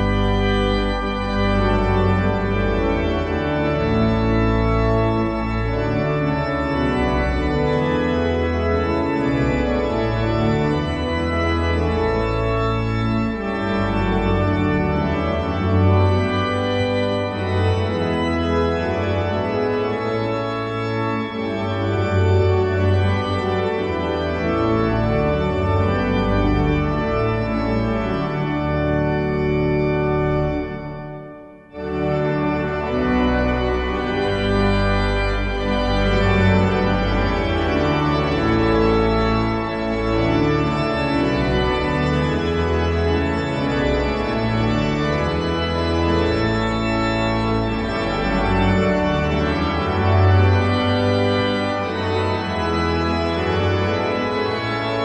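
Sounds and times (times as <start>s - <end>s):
organ music in held chords: 0.0s - 55.0s.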